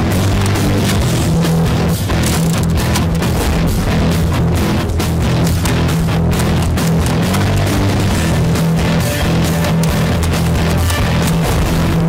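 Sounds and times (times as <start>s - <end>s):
music with guitar and beat: 0.0s - 12.0s.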